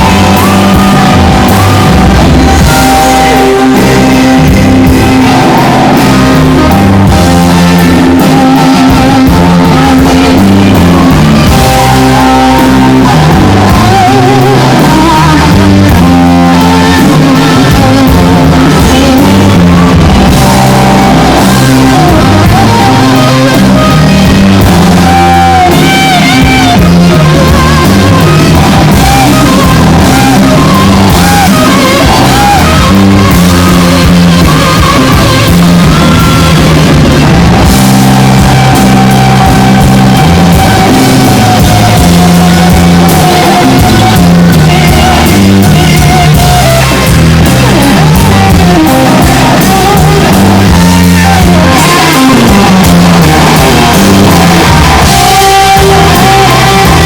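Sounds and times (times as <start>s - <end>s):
long wavering guitar note: 0.0s - 57.0s
rock band playing: 0.0s - 57.0s.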